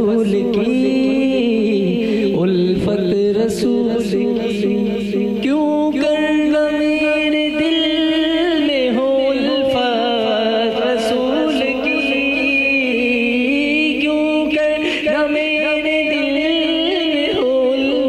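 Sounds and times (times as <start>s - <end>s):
man singing devotional poem: 0.0s - 18.0s.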